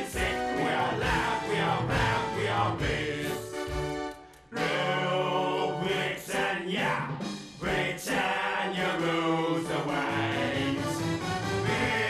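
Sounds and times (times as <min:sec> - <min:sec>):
choir singing song: 0:00.0 - 0:12.0.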